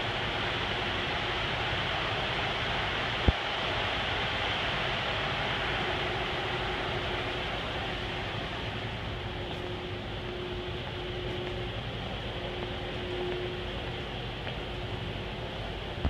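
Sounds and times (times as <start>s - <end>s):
faint steady hum: 0.0s - 16.0s
freezer fans rushing air: 0.0s - 16.0s.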